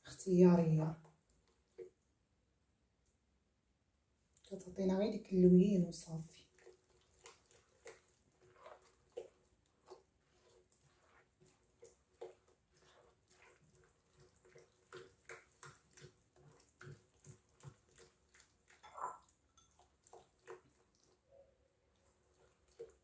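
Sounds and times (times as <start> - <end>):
hand squishing wet mixture: 0.0 - 2.3, 4.3 - 23.0.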